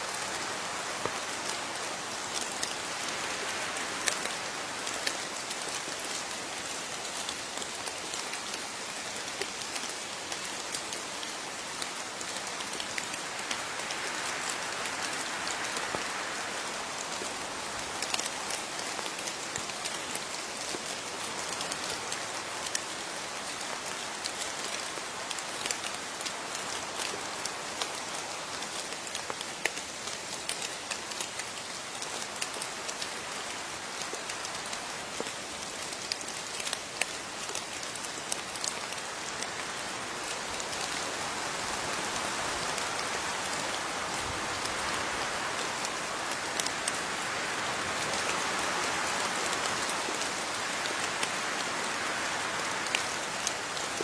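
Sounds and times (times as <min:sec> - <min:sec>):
steady rain falling: 0:00.0 - 0:54.0
raindrops pattering on a surface: 0:00.1 - 0:54.0.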